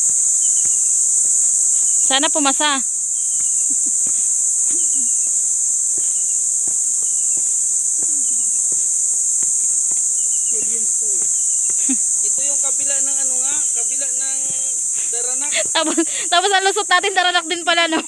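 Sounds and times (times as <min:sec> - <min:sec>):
footsteps on dry leaves: 0:00.0 - 0:16.7
insects droning: 0:00.0 - 0:18.0.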